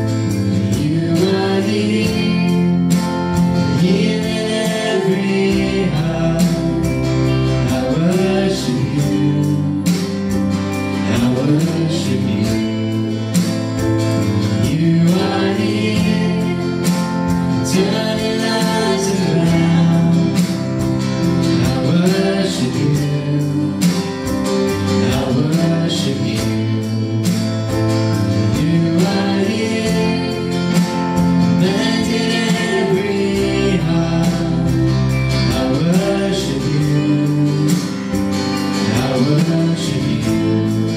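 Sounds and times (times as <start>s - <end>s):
worship singing with band: 0.0s - 40.9s.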